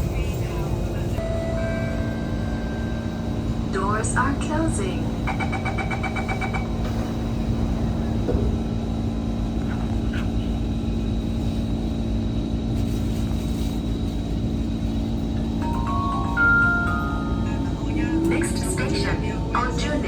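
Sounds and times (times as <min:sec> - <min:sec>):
train rumbling and humming: 0:00.0 - 0:20.0.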